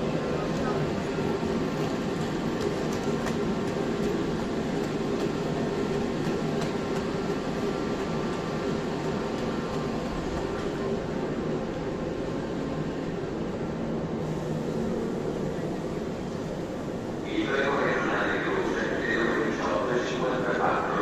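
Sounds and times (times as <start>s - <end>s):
parked electric train humming: 0.0s - 21.0s.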